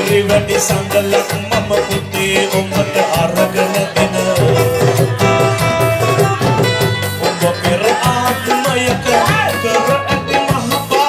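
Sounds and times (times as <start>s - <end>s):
held melody: 0.0s - 11.0s.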